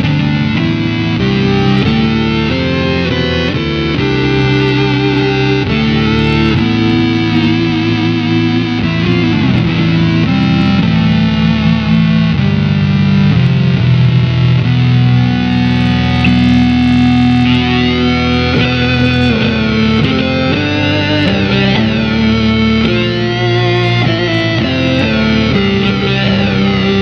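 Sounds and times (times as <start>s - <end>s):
synth-like electric guitar: 0.0s - 27.0s.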